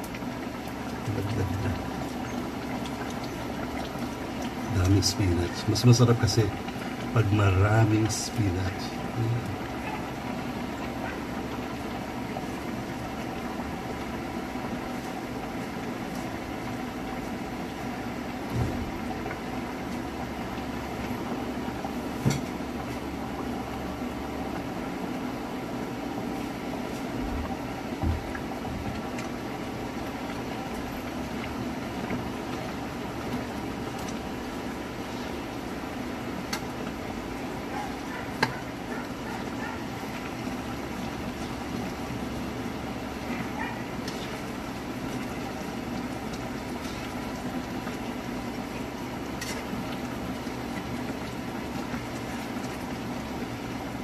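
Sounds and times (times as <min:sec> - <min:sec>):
sauce simmering in a pan: 0:00.0 - 0:54.0.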